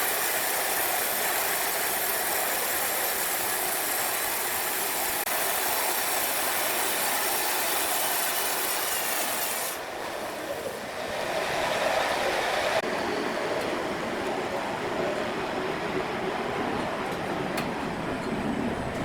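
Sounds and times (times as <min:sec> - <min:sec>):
sawmill machinery hissing: 0:00.0 - 0:16.5.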